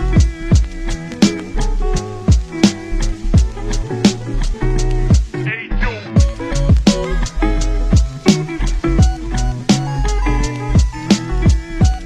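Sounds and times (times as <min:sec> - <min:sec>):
music with drums bass and guitar: 0:00.0 - 0:12.0.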